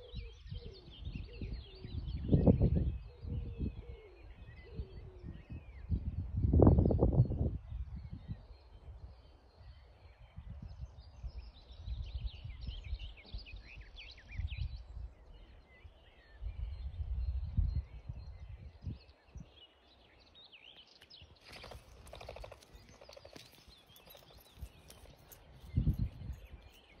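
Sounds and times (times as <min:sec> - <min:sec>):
wind rumble on microphone: 0:00.0 - 0:20.5, 0:21.2 - 0:27.0
songbirds chirping: 0:00.0 - 0:27.0.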